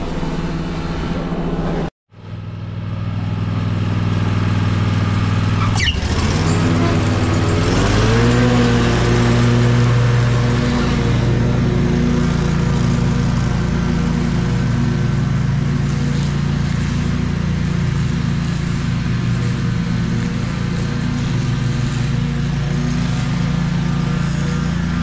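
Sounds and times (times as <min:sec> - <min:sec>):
lawn mower cutting grass: 0:00.0 - 0:25.0.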